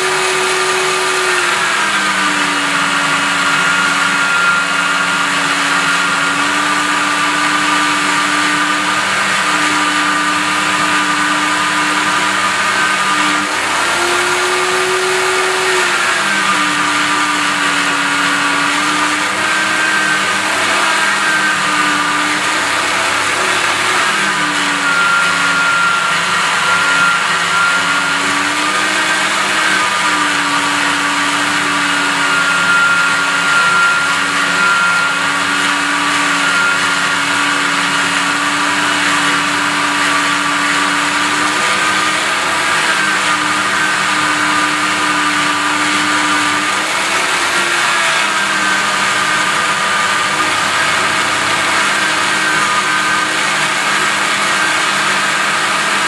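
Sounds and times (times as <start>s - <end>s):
electric grinder polishing brush: 0.0s - 56.0s.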